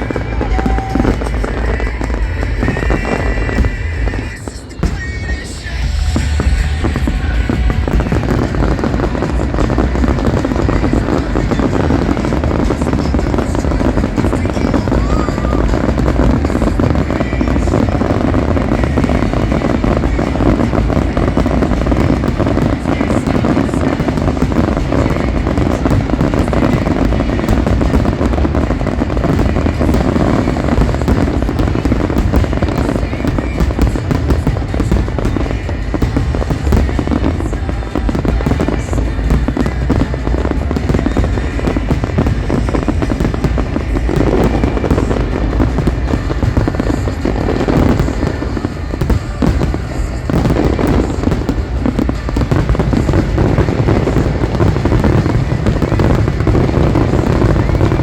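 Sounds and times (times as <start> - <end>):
fireworks barrage: 0.0 - 58.0
music: 0.0 - 58.0.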